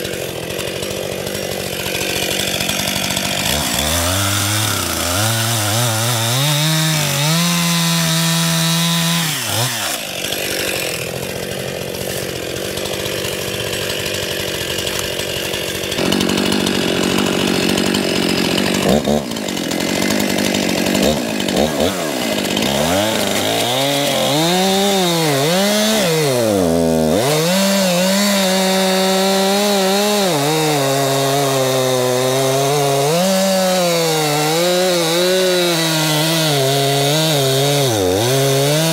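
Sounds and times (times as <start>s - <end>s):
chain grinding in the cut: 0.0s - 38.9s
chainsaw engine revving: 0.0s - 38.9s.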